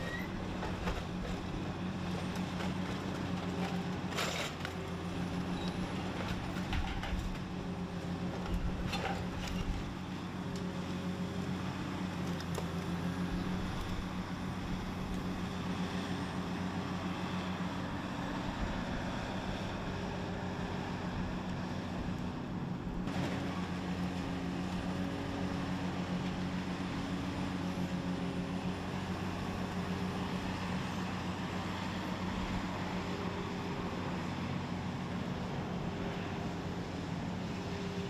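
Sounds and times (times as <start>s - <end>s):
shredder machinery humming: 0.0s - 38.0s.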